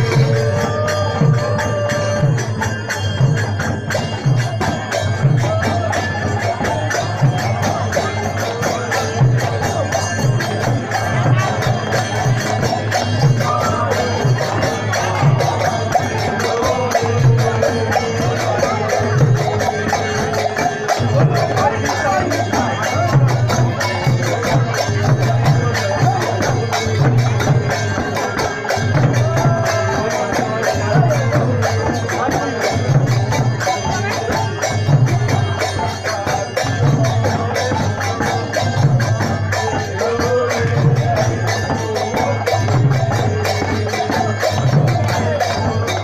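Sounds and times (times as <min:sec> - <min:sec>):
low drum beat: 0:00.0 - 0:46.0.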